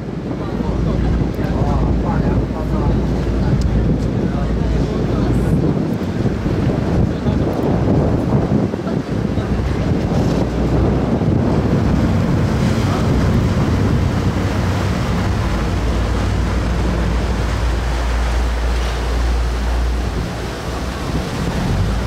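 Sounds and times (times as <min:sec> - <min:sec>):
low engine hum: 0:00.0 - 0:22.0
water rushing past hull: 0:00.0 - 0:22.0
wind buffeting microphone: 0:00.0 - 0:22.0.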